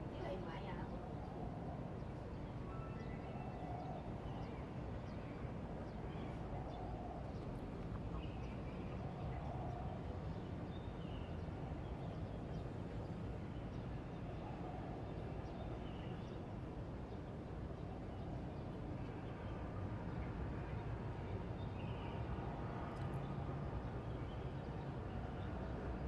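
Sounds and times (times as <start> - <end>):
low urban background hum: 0.0 - 26.0.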